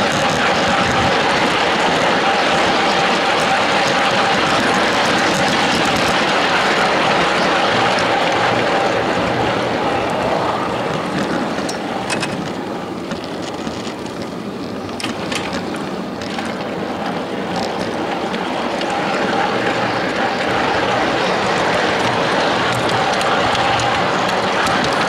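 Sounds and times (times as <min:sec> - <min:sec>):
miniature train wheels rumbling on rail: 0:00.0 - 0:25.0.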